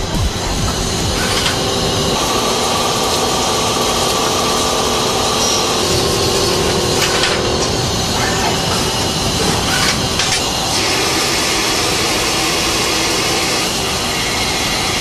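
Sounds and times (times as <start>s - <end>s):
lathe spindle and cutting whine: 0.0s - 15.0s
sharp clatter: 0.0s - 15.0s.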